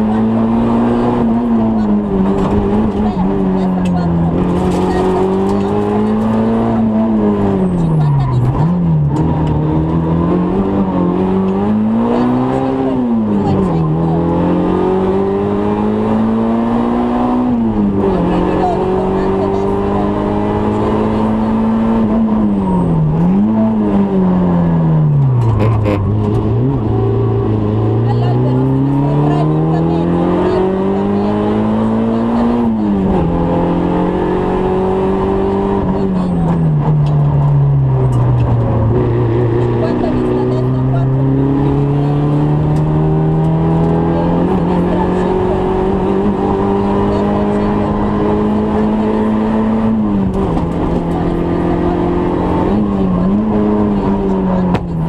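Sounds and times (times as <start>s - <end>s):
rally car engine under load: 0.0s - 55.0s.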